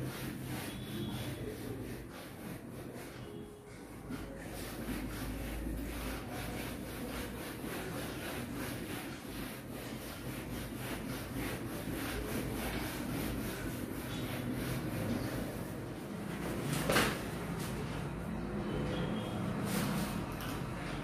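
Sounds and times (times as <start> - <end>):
eraser rubbing whiteboard: 0.0 - 18.1, 18.7 - 21.0.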